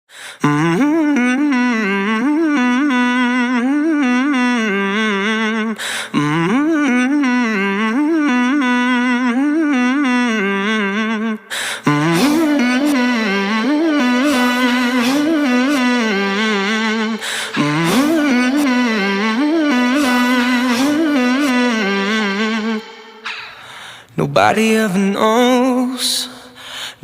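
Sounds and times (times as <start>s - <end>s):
person humming melody: 0.4s - 23.7s.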